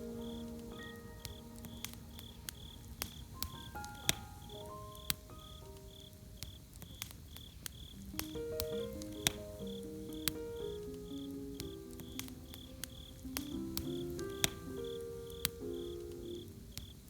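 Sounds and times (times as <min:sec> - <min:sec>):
campfire crackling and popping: 0:00.0 - 0:17.0
crickets chirping: 0:00.0 - 0:17.0
soft melodic music: 0:00.0 - 0:17.0.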